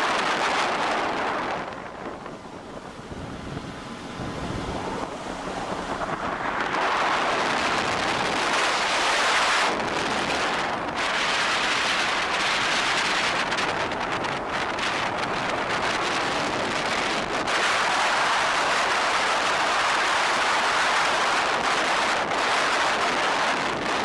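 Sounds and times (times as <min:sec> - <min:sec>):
rushing water: 0:00.0 - 0:24.0
wind buffeting microphone: 0:00.0 - 0:24.0.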